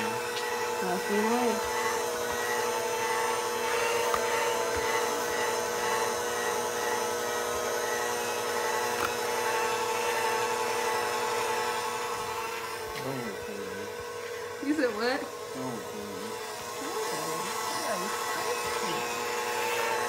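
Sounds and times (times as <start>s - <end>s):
electric mixer motor whine: 0.0s - 20.0s.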